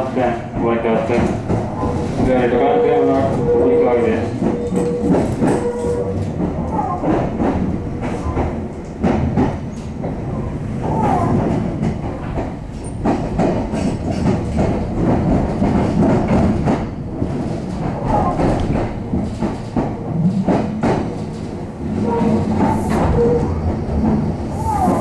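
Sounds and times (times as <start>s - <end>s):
train running low rumble: 0.0s - 25.0s
wheels clattering over rail joints: 0.1s - 25.0s.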